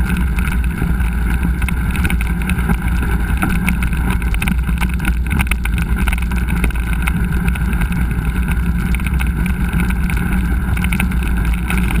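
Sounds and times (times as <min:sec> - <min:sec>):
bike rattles and clicks: 0:00.0 - 0:12.0
wind buffeting microphone: 0:00.0 - 0:12.0.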